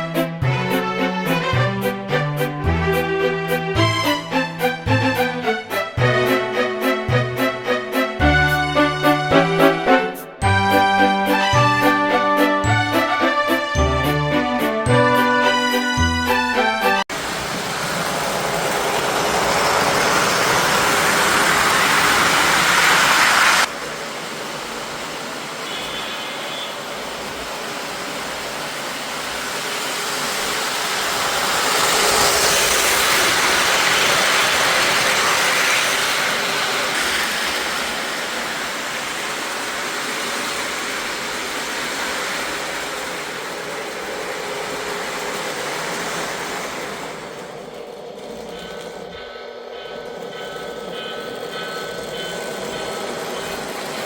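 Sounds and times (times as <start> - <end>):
model train running on track: 0.0 - 54.0.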